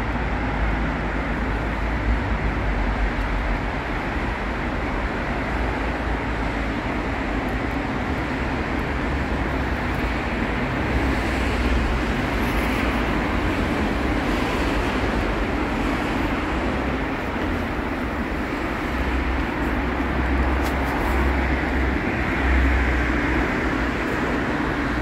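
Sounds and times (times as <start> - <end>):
road traffic rumble and hiss: 0.0 - 25.0.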